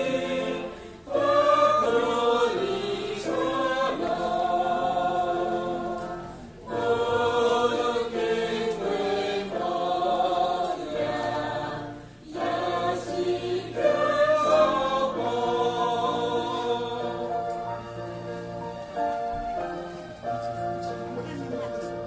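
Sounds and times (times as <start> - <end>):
choir singing a hymn: 0.0 - 22.0
electronic keyboard: 0.0 - 22.0.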